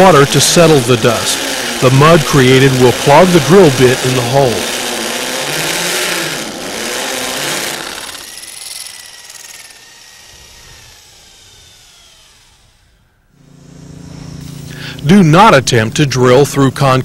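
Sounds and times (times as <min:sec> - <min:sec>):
hammer drill drilling into concrete: 0:00.0 - 0:14.8
drill motor whine spinning down: 0:00.0 - 0:15.2.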